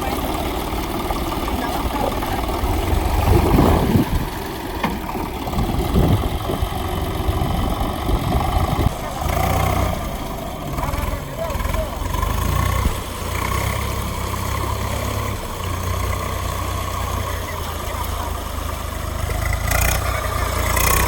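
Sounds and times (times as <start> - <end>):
heavy diesel engine idling: 0.0 - 21.0.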